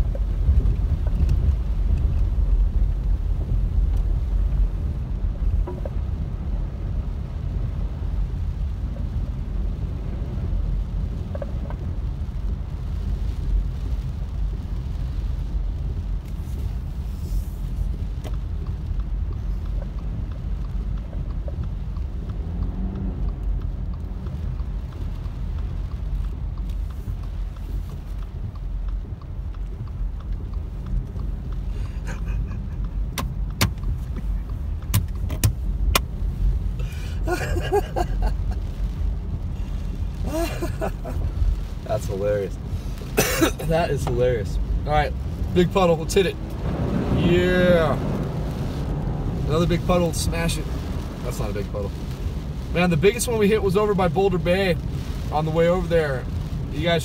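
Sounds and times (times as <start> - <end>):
rain: 0.0 - 57.0
road and tyre noise: 0.0 - 57.0.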